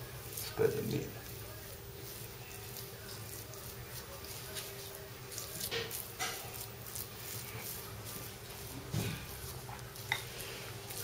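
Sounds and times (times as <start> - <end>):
spoon scraping filling on dough: 0.0 - 11.0.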